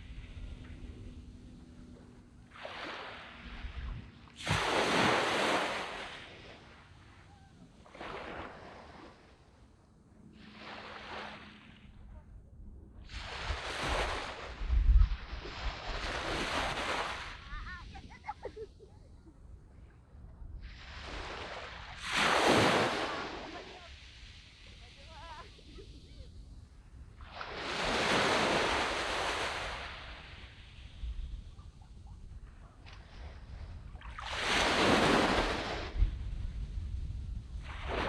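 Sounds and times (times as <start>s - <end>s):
small waves washing up beach: 0.0s - 12.2s, 13.0s - 19.3s, 20.6s - 38.0s.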